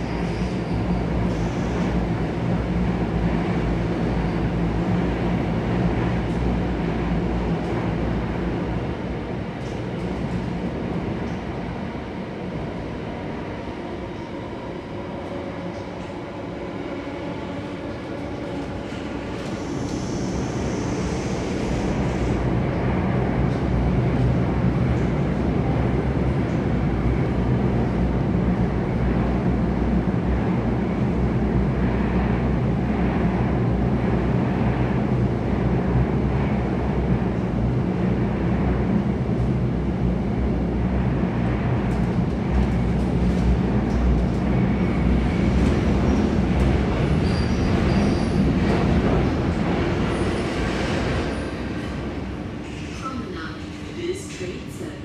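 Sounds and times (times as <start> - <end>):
train wheels on rail: 0.0 - 55.0.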